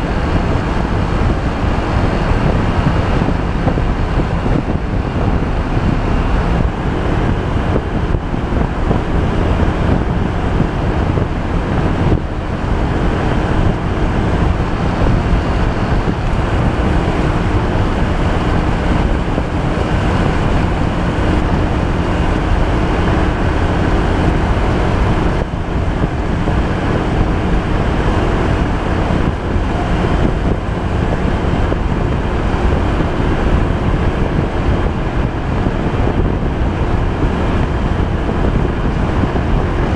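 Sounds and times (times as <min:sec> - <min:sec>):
scooter engine hum: 0:00.0 - 0:39.9
wind noise on microphone: 0:00.0 - 0:39.9.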